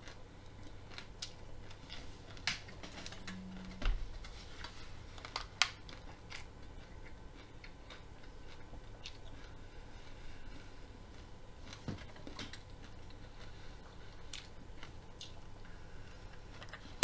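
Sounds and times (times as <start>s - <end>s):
raw broccoli being chewed: 0.0s - 17.0s.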